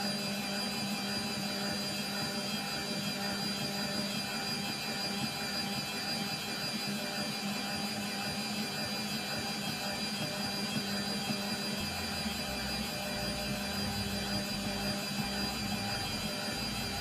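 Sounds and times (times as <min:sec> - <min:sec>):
stand mixer motor humming: 0:00.0 - 0:17.0.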